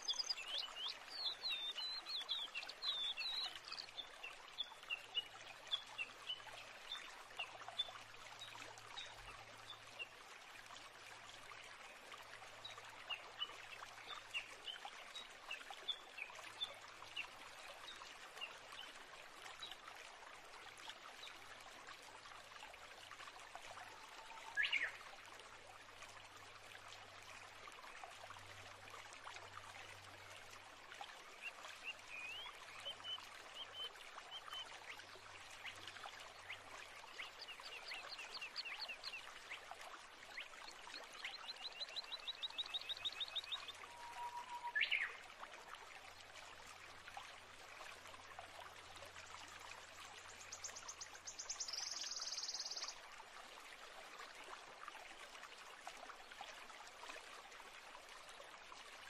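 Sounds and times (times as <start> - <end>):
trickling water rush: 0.0 - 59.0.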